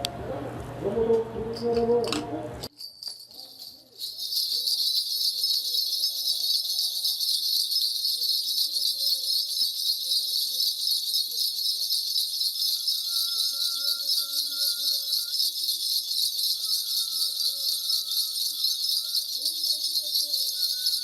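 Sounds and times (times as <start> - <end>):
brass bells shaken: 2.7 - 21.0.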